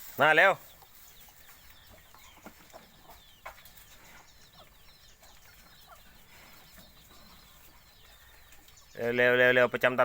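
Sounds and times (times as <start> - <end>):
chicken clucking: 0.2 - 10.0.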